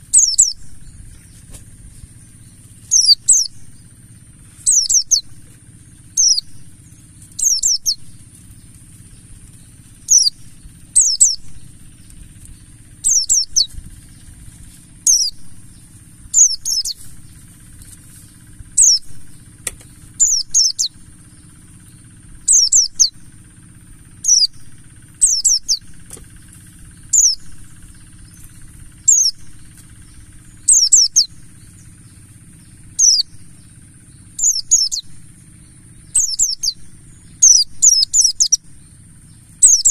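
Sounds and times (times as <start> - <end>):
bird chirping: 0.0 - 39.9
low hum: 0.0 - 39.9.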